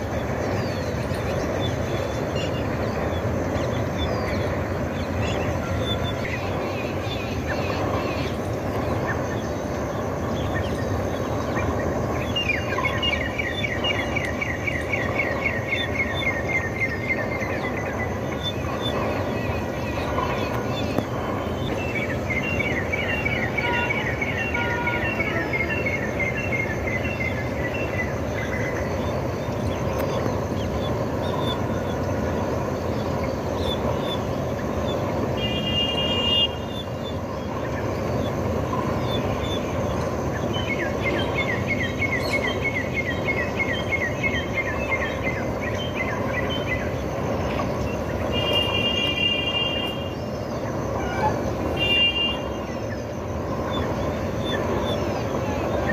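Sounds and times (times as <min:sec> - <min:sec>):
outdoor background rumble: 0:00.0 - 0:55.9.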